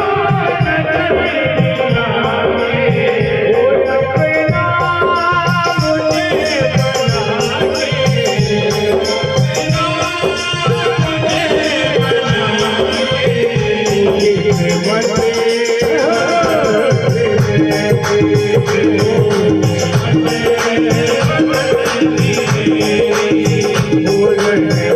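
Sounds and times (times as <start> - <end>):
steady drum beat: 0.0 - 24.9
rattling shaker percussion: 3.9 - 24.9.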